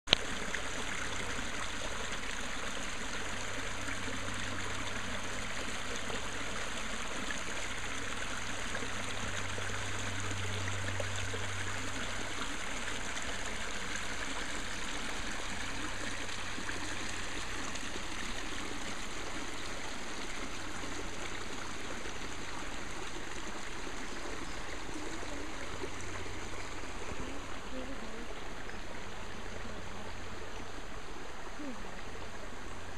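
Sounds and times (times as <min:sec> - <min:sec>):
creek water running over rocks: 0:00.1 - 0:32.9.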